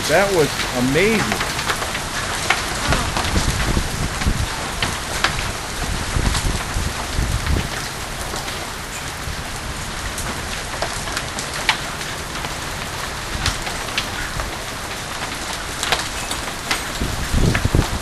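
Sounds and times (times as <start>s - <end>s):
hailstones striking: 0.0s - 18.0s
rain and hail hissing: 0.0s - 18.0s.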